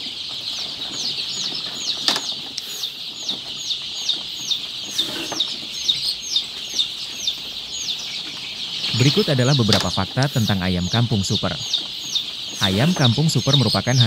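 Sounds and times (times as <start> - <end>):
chick's loud falling peeps: 0.0 - 14.0
chicks peeping: 0.0 - 14.0.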